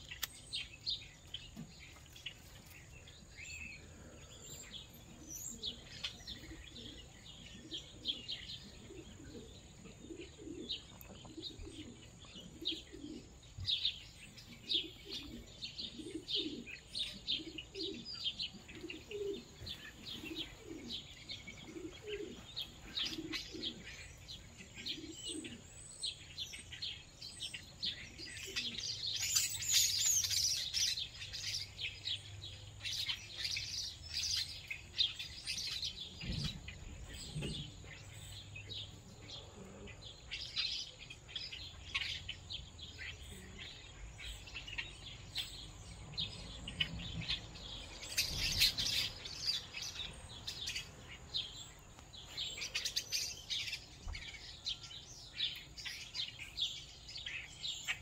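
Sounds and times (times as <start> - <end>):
pigeons cooing: 0.0 - 58.0
small birds chirping: 0.0 - 58.0.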